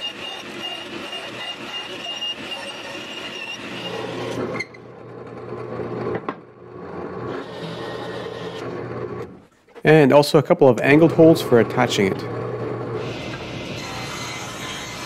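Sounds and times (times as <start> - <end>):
bandsaw whining: 0.0 - 4.8, 5.5 - 9.4, 10.9 - 15.0
drill press boring wood: 0.0 - 9.4, 10.9 - 15.0.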